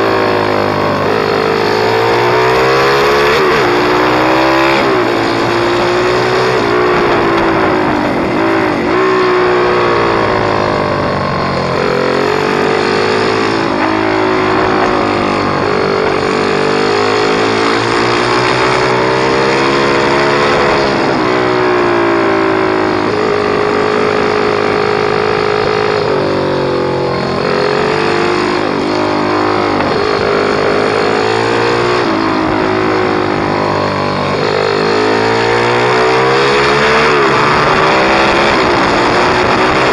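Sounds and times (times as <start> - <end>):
small motorcycle engine revving: 0.0 - 39.9.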